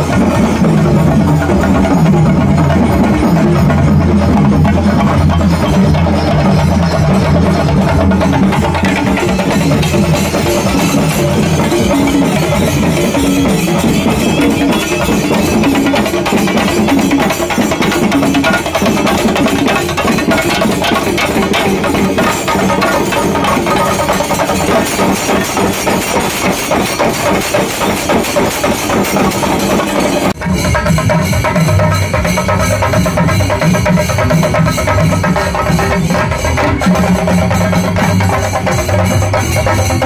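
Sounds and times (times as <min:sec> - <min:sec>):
drums beaten with sticks: 0:00.0 - 0:40.0.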